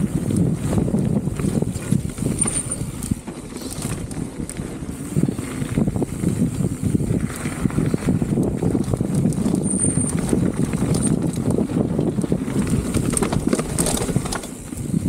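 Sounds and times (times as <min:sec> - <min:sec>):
bike parts rattling and clicking: 0:00.0 - 0:15.0
tyres rumbling on dirt: 0:00.0 - 0:15.0
wind on microphone: 0:00.0 - 0:15.0.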